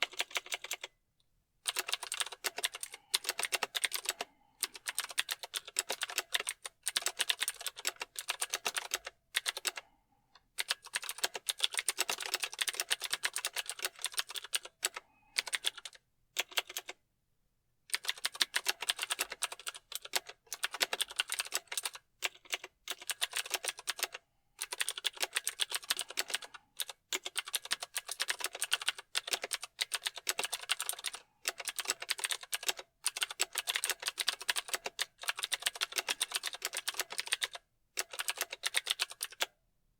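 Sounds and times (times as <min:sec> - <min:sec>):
mechanical keyboard typing: 0:00.0 - 0:00.9, 0:01.7 - 0:09.8, 0:10.6 - 0:17.0, 0:17.9 - 0:39.5.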